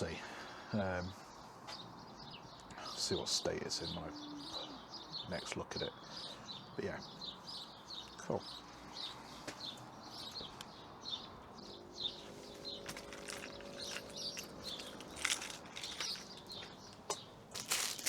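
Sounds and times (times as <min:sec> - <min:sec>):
small bird chirping: 0:00.9 - 0:18.0.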